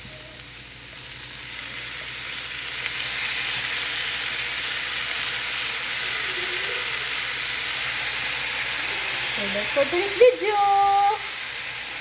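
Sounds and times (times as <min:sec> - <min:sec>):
squash sizzling in frying pan: 0:00.0 - 0:12.0.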